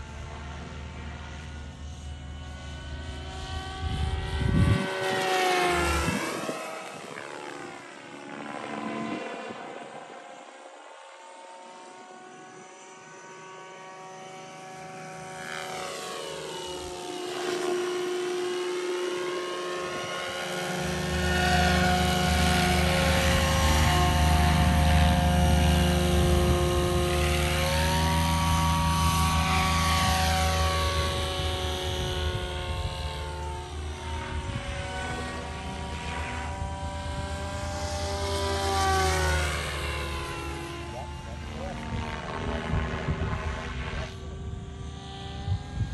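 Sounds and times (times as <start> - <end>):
rc helicopter whine passing: 0.0 - 45.9.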